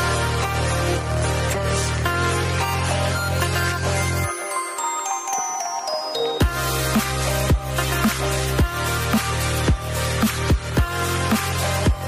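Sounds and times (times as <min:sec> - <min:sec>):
electronic music with heavy drum beat: 0:00.0 - 0:05.1, 0:06.4 - 0:12.0.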